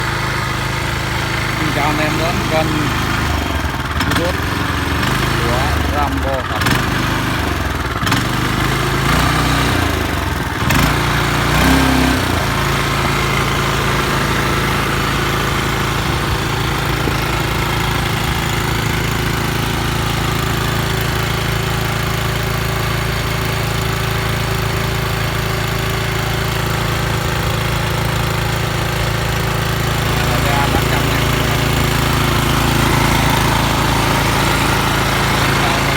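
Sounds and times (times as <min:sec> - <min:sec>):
small tiller engine running: 0:00.0 - 0:35.9.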